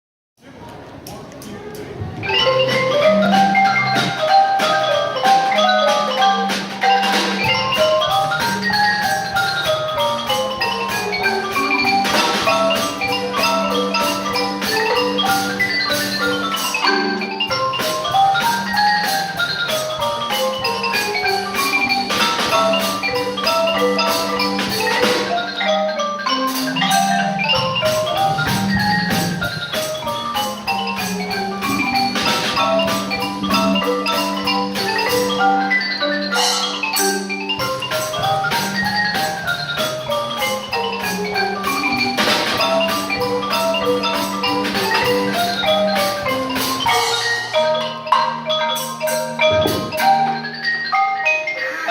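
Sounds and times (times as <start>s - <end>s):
ensemble music with mallet percussion: 2.0s - 51.9s.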